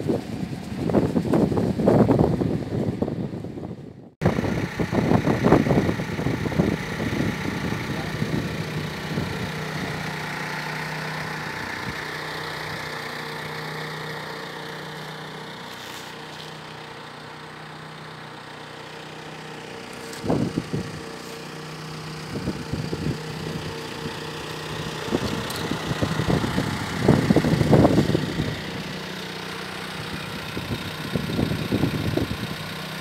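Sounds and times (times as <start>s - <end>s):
steady engine hum: 0.0s - 33.0s.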